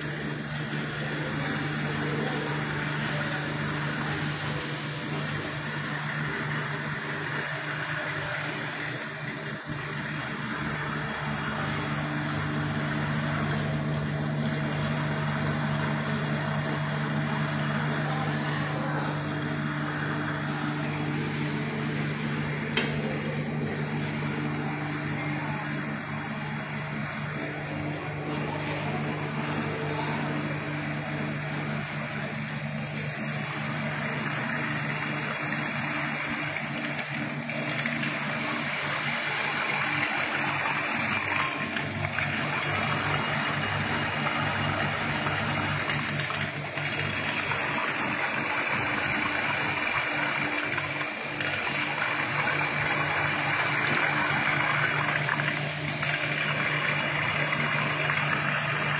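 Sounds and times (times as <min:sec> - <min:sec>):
cooling fans whirring: 0:00.0 - 0:58.9
low electrical hum: 0:00.0 - 0:58.9.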